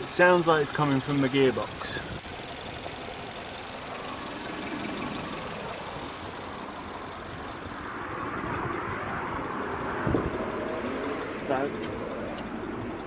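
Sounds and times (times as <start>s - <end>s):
car running with mechanical noise: 0.0s - 13.0s.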